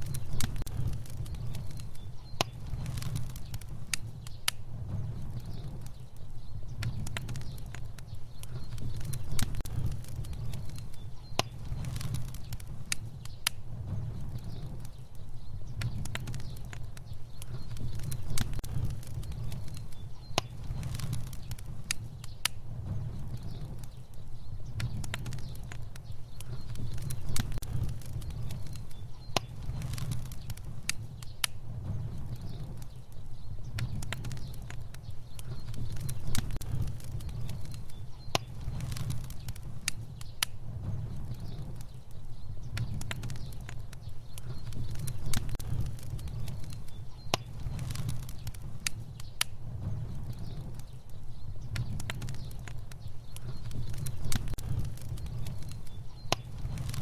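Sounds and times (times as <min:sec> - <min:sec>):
fire crackles and pops: 0:00.0 - 0:57.0
fire rumbling: 0:00.0 - 0:57.0
sharp loud fire snaps: 0:00.0 - 0:57.0.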